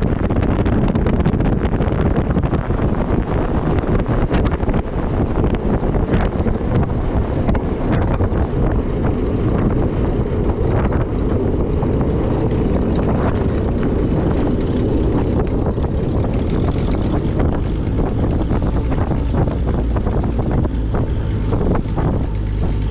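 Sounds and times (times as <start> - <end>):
propeller plane engine drone: 0.0 - 22.9.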